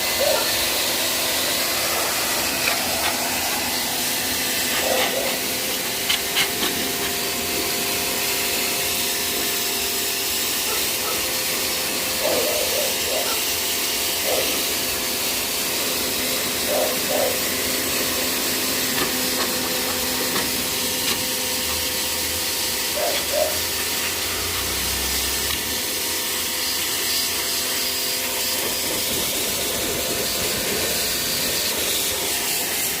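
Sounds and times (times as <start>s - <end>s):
water spray jet hissing: 0.0s - 33.0s.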